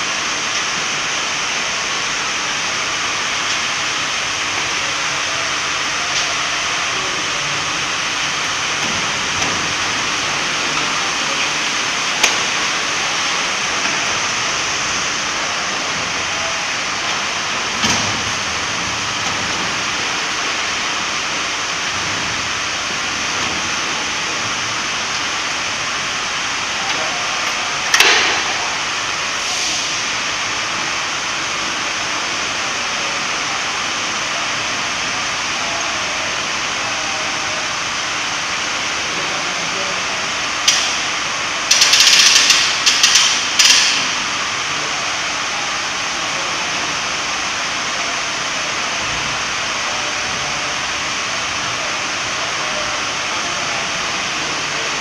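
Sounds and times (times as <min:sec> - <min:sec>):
room noise hiss: 0:00.0 - 0:55.0.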